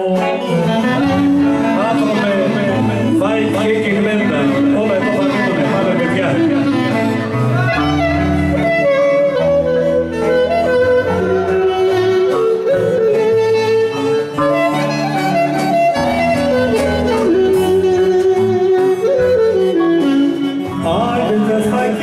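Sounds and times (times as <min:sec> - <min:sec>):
clarinet melody: 0:00.0 - 0:22.0
folk band accompaniment: 0:00.0 - 0:22.0.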